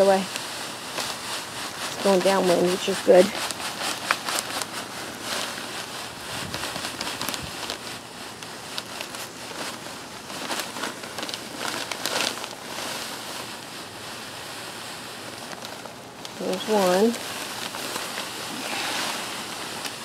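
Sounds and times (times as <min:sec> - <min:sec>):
granules pouring into plastic bucket: 0:00.0 - 0:20.0.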